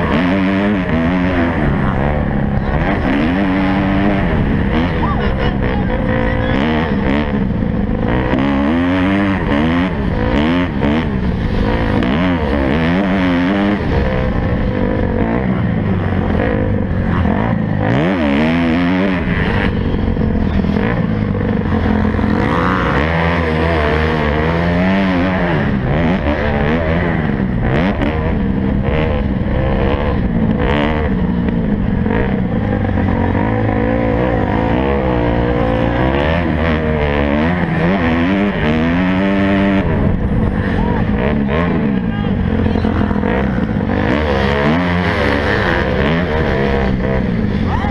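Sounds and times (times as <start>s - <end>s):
motocross bike engines revving: 0.0s - 47.9s.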